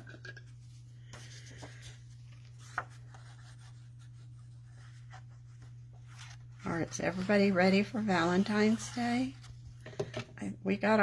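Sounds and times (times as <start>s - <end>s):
steady low hum: 0.0s - 11.0s
paper rubbing and tapping: 1.1s - 10.1s.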